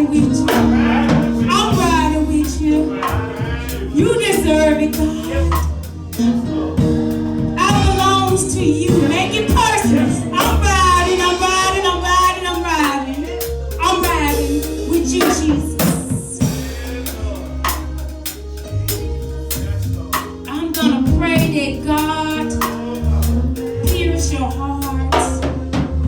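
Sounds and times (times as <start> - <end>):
drum beat: 0.0 - 18.0, 19.4 - 23.0
steady bass notes: 0.0 - 26.0.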